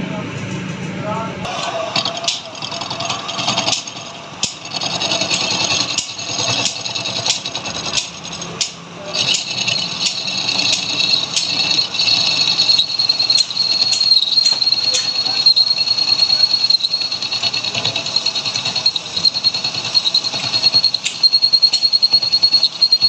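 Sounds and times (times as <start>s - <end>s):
high-pitched cutting whine: 1.5s - 23.0s
metal lathe scraping and clicking: 1.5s - 23.0s.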